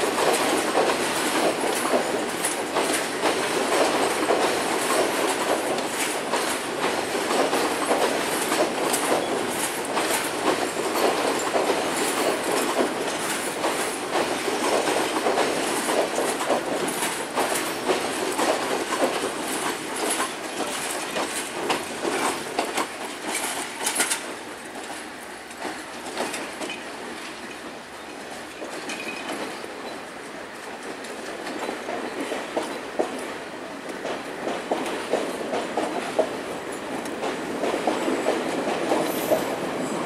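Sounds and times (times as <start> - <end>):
train wheels clacking: 0.0 - 40.0.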